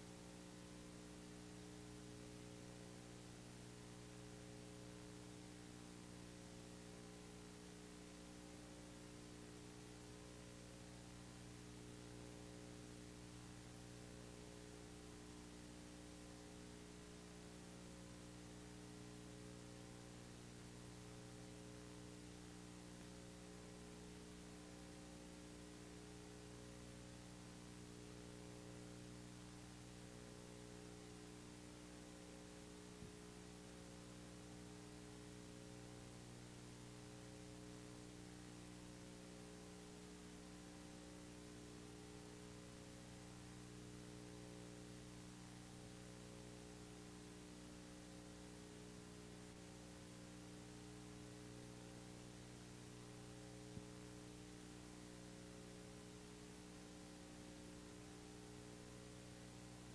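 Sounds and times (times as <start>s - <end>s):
low electrical hum with hiss: 0.0s - 59.9s.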